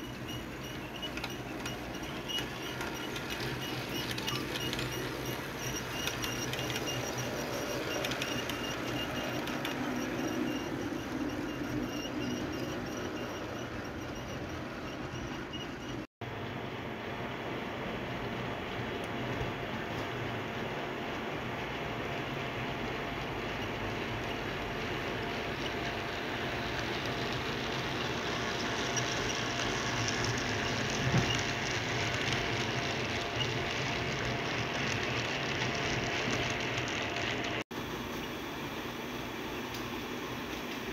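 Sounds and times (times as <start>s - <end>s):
model train rolling rumble: 0.0s - 16.0s, 18.1s - 37.6s.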